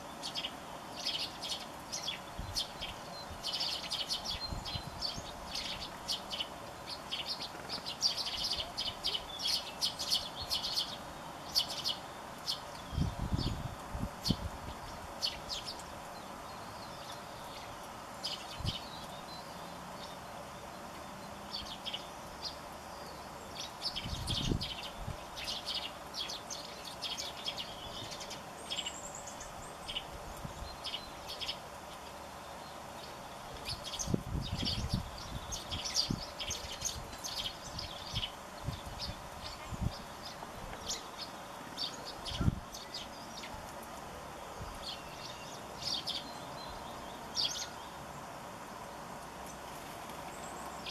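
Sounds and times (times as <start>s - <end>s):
sparrows chirping: 0.0s - 50.9s.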